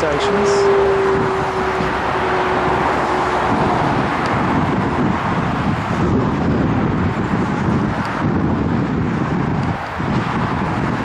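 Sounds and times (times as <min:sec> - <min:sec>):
moving vehicle rushing noise: 0:00.0 - 0:11.0
wind buffeting microphone: 0:00.0 - 0:11.0.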